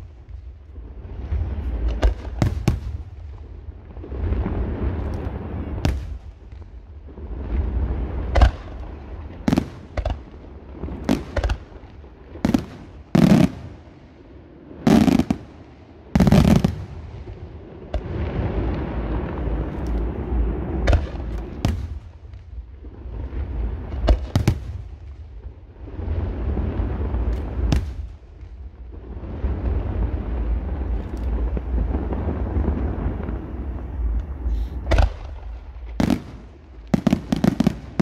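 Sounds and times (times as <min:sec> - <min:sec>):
low rumble and hiss: 0:00.0 - 0:38.0.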